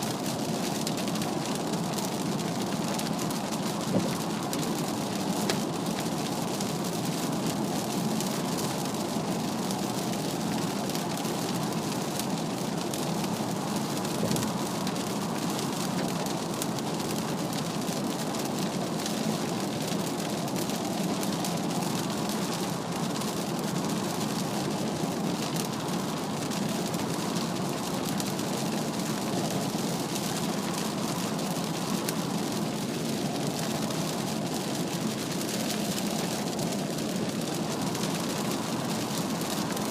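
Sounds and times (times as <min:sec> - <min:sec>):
rain on car body: 0:00.0 - 0:39.9.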